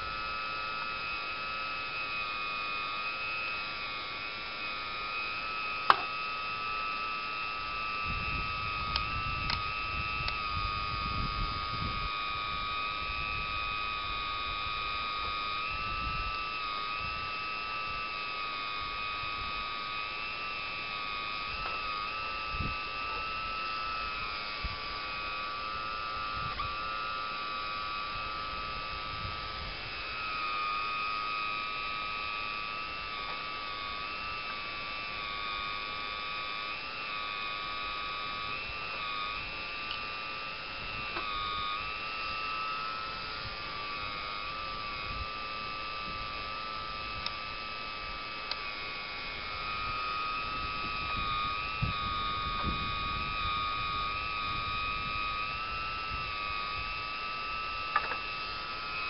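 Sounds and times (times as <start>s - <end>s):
small electric motors whining: 0.0s - 59.0s.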